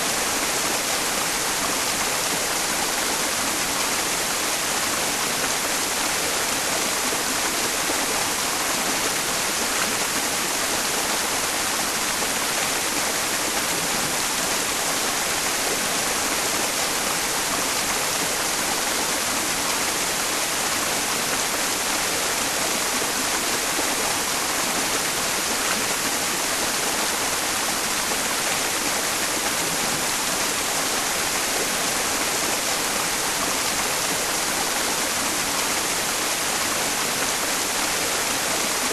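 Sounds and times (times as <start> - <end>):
mountain stream rushing: 0.0 - 38.9
white noise hiss: 0.0 - 38.9.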